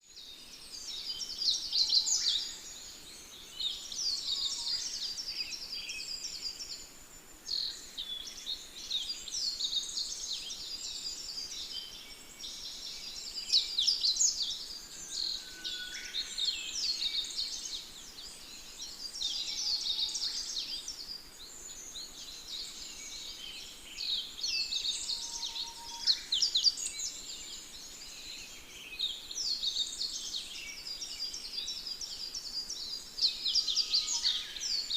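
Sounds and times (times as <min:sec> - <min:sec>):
songbirds chorus singing: 0:00.0 - 0:34.9.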